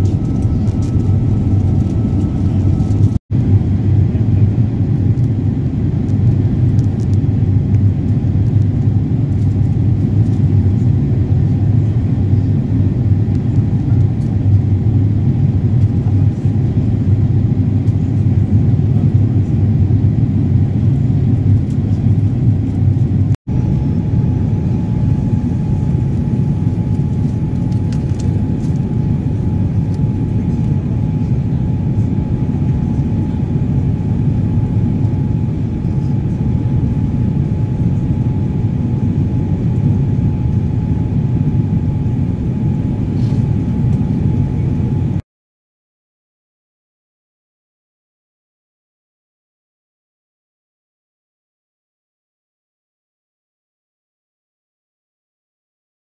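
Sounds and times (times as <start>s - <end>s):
aircraft cabin engine rumble: 0.0s - 45.2s.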